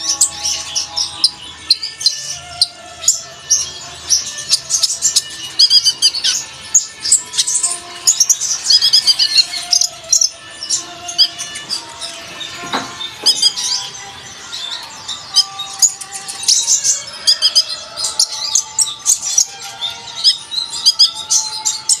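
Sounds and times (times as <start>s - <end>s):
bird chirping and twittering: 0.0s - 22.0s
faint music: 0.0s - 22.0s.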